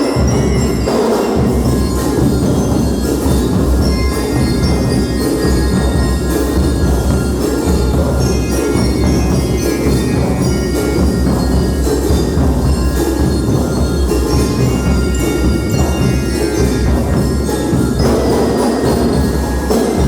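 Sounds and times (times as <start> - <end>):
bell lyres playing melody: 0.0 - 20.0
marching drums: 0.0 - 20.0.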